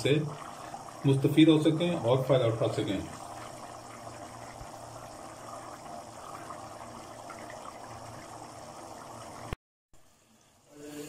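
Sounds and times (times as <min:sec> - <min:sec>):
curry bubbling in a pot: 0:00.0 - 0:10.7.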